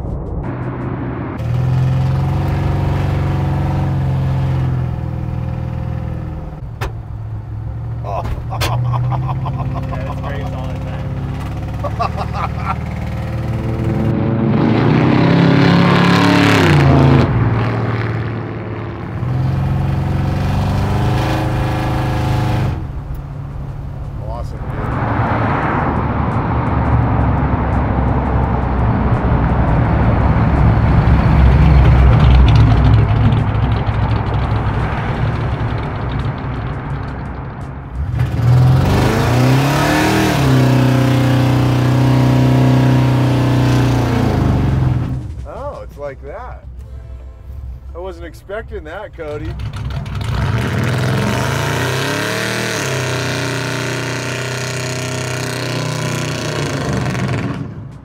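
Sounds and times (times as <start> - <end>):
truck driving past: 0.0 - 48.1, 48.9 - 58.0
pickup engine accelerating: 0.4 - 46.8, 49.1 - 58.0.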